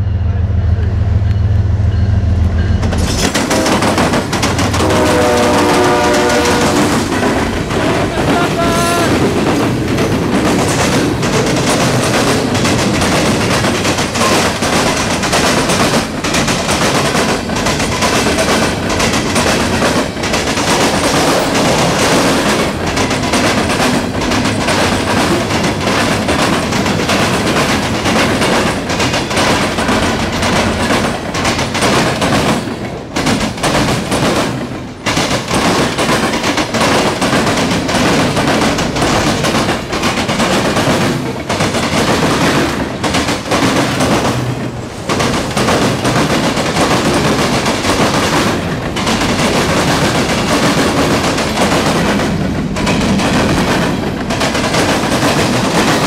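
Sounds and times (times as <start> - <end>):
diesel locomotives passing: 0.0 - 56.0
train wheels rumbling on rail: 0.0 - 56.0.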